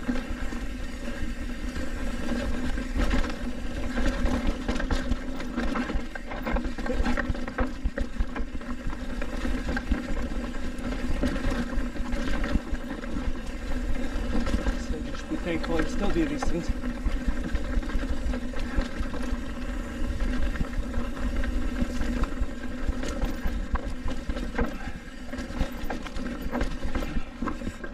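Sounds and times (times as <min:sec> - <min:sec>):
bike knocking and rattling: 0:00.0 - 0:27.9.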